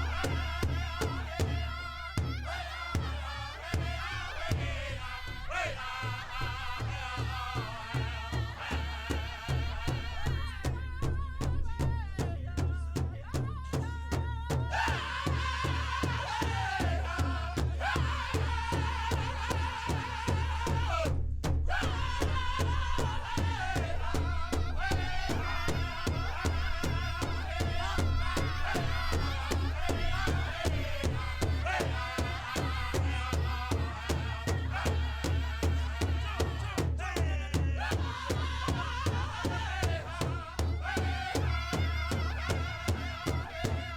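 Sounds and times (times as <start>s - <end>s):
steady drum beat: 0.0s - 43.9s.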